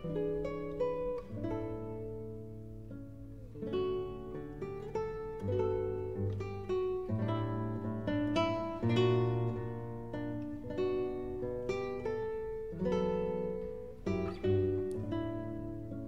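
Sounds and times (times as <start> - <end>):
acoustic guitar piece: 0.0 - 16.0.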